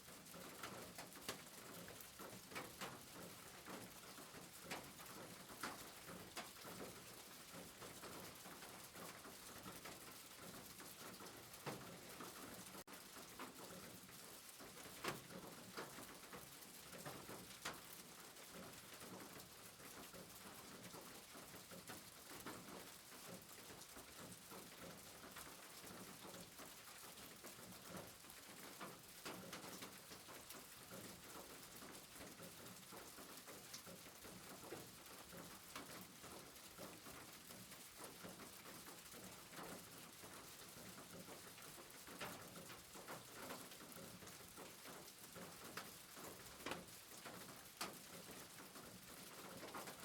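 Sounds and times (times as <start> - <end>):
faint rain patter: 0.0 - 50.0.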